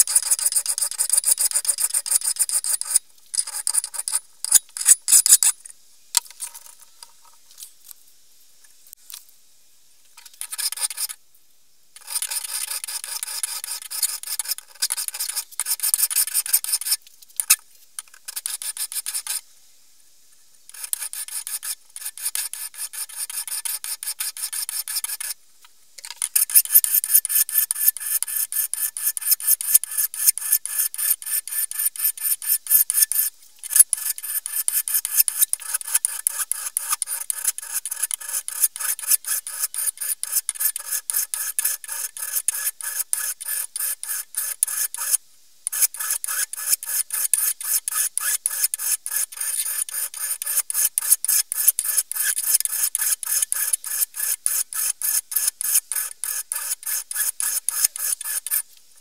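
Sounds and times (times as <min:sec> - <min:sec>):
hand file rasping on steel: 0:00.0 - 0:05.5, 0:12.0 - 0:17.0, 0:18.3 - 0:19.4, 0:20.7 - 0:25.4, 0:26.3 - 0:58.7.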